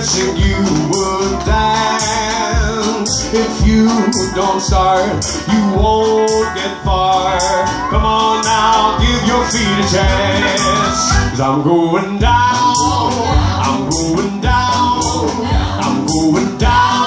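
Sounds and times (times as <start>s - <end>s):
resonator guitar strumming: 0.0s - 11.4s, 12.2s - 17.0s
upright bass: 0.0s - 17.0s
sharp percussive hits: 0.8s - 7.8s, 8.4s - 11.0s, 12.6s - 16.8s.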